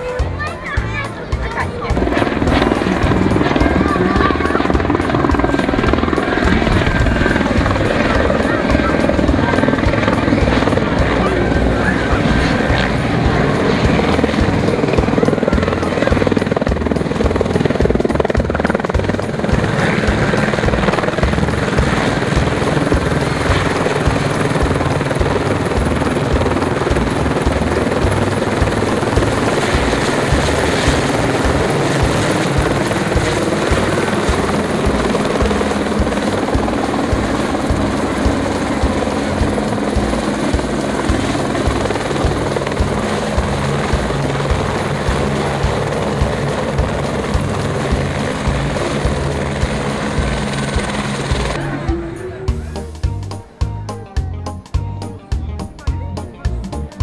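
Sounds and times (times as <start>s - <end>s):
helicopter rotor blades beating: 0.0s - 57.0s.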